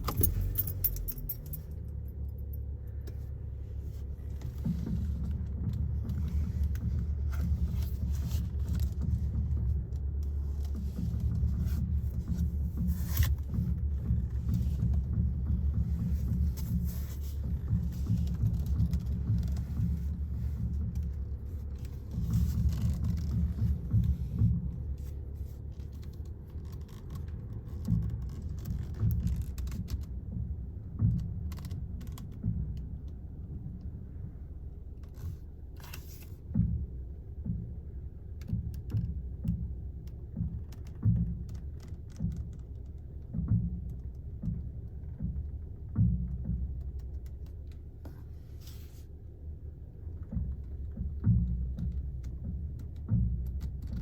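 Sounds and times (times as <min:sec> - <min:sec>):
steady low rumble: 0:00.0 - 0:54.0
low pops when steering: 0:02.4 - 0:54.0.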